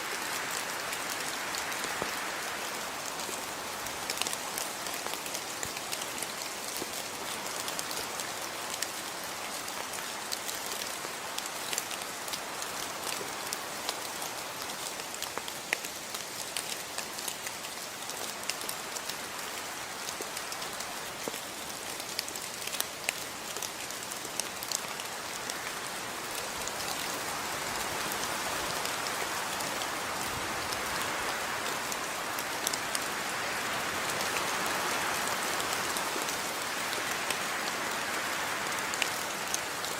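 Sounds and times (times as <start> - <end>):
rain drops pattering and dripping: 0.0 - 39.9.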